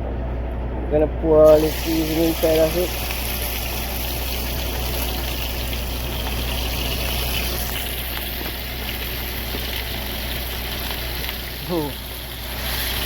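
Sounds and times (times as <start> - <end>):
vegetables sizzling in hot oil: 1.4 - 13.0.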